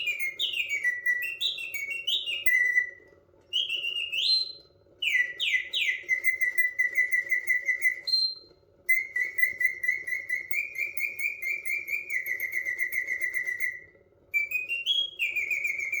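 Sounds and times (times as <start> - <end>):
faint steady hum: 0.0 - 16.0
mechanical bird whistling trills: 0.0 - 16.0.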